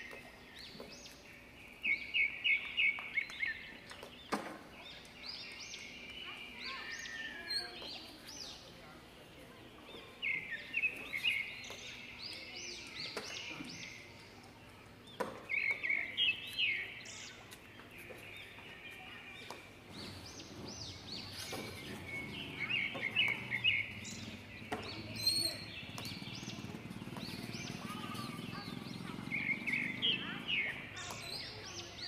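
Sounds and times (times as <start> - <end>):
birds chirping: 0.0 - 32.0
faint outdoor background: 0.0 - 32.0.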